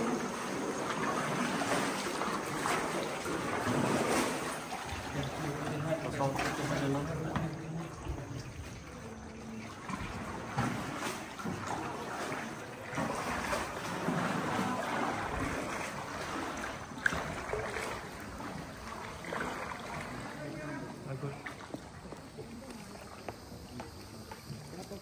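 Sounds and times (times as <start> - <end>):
paddle splashes: 0.0 - 25.0
water lapping around canoe: 0.0 - 25.0.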